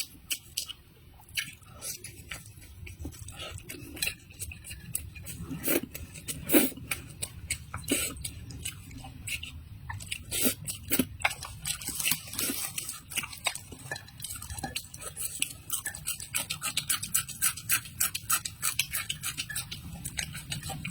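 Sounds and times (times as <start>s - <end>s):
crunchy chewing: 0.0s - 20.9s.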